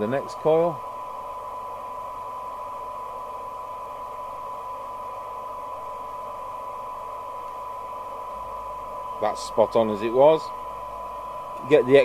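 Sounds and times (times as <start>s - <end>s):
receiver hiss: 0.0s - 12.0s
steady test tone: 0.0s - 12.0s.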